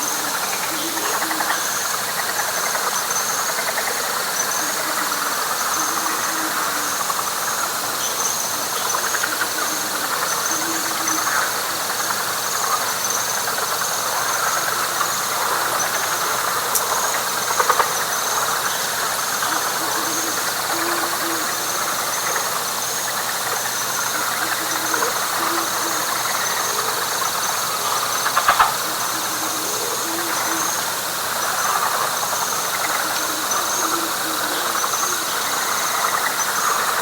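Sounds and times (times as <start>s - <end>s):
frogs trilling: 0.0s - 37.0s
pulsing high insect buzz: 0.0s - 37.0s.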